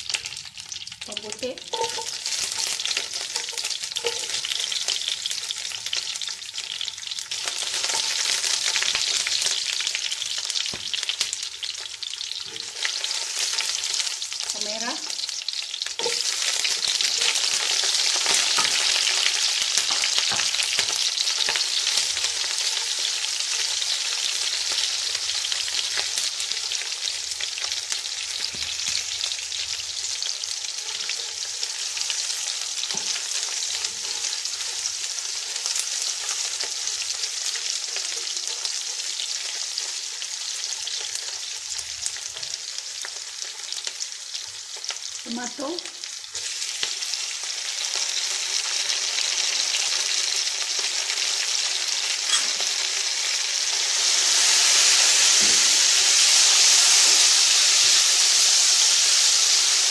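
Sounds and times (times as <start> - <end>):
spices sizzling in hot oil: 0.0 - 59.9.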